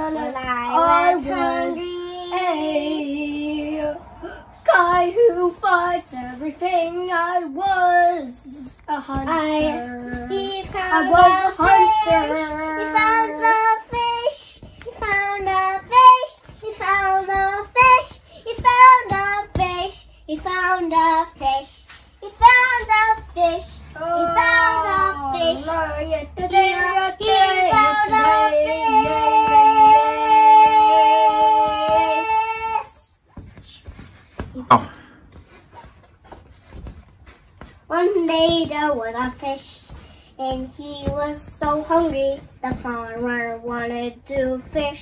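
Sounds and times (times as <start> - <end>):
child singing: 0.0 - 4.0, 4.7 - 33.9, 37.9 - 45.0.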